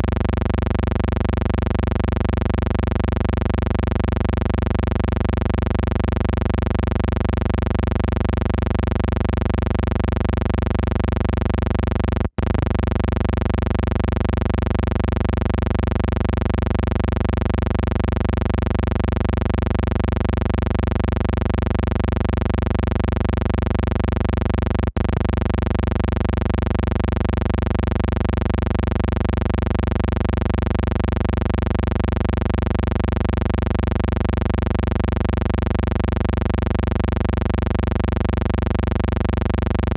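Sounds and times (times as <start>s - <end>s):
steady hum with overtones: 0.0s - 39.9s.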